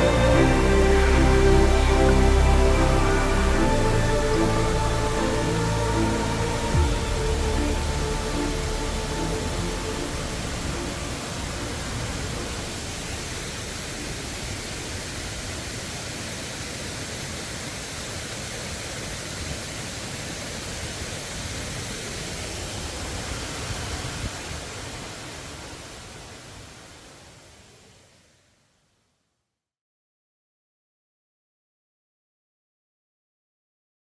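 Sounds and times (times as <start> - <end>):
waterfall rushing: 0.0 - 28.2.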